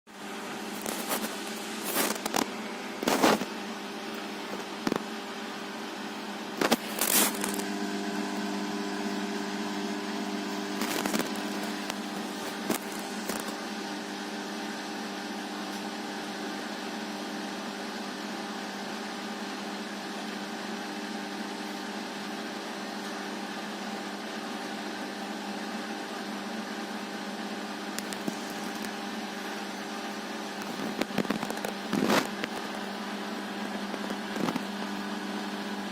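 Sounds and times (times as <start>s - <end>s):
washing machine motor hum and whine: 0.1s - 35.9s.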